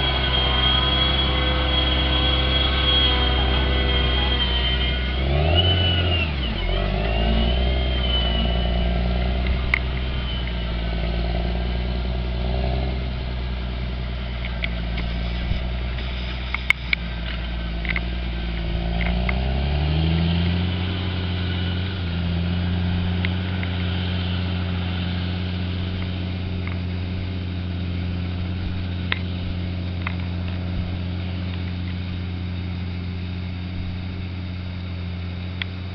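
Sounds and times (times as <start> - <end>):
tractor diesel engine working: 0.0 - 35.9.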